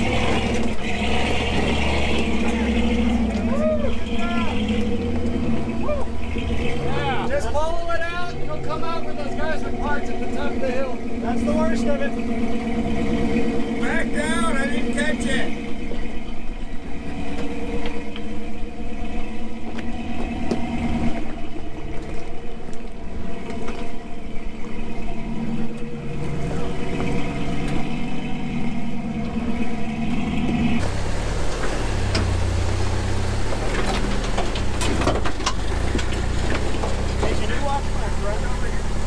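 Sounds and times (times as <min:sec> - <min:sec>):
deep truck engine: 0:00.0 - 0:39.0
truck engine at low revs: 0:00.0 - 0:39.0.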